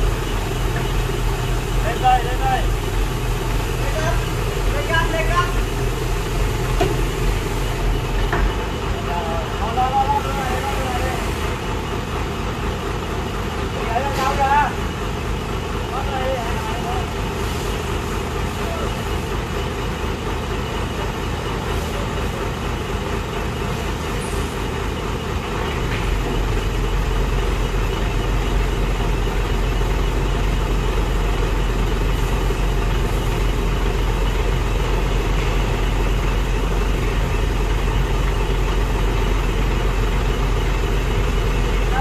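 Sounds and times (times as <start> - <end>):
vehicle engine low rumble: 0.0 - 42.0.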